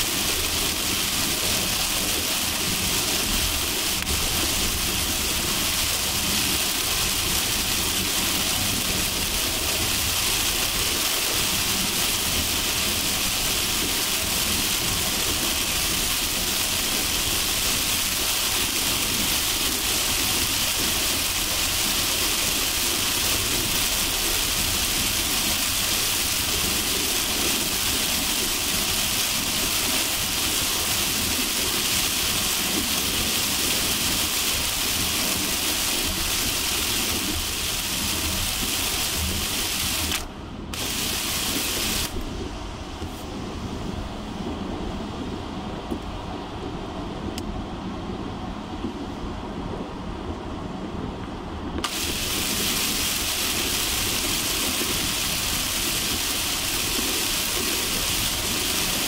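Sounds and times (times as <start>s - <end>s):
heavy rain hiss on car: 0.0s - 59.0s
road and vehicle noise: 0.0s - 59.0s.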